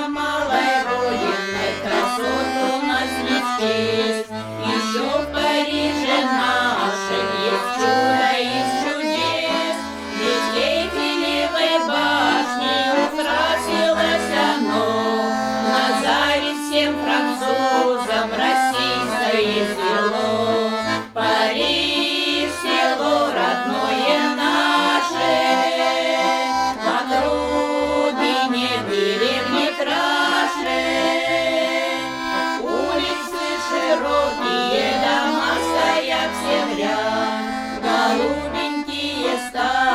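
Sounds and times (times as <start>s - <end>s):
accordion playing folk tune: 0.0s - 39.9s.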